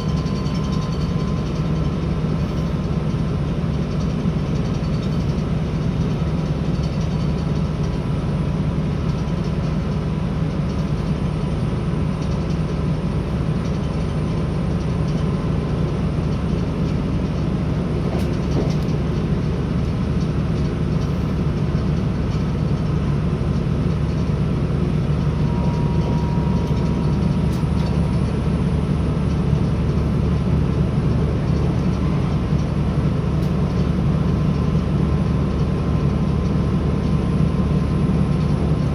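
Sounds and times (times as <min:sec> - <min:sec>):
train engine and wheels drone: 0:00.0 - 0:38.9.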